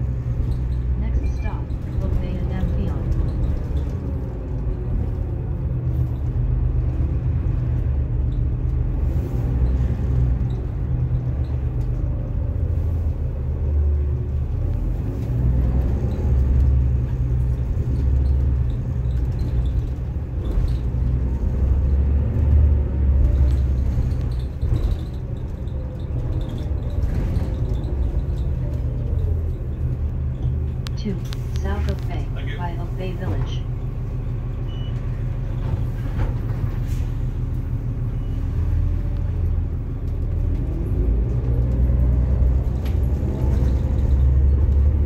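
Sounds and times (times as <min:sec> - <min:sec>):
bus drivetrain rumble: 0:00.0 - 0:45.0.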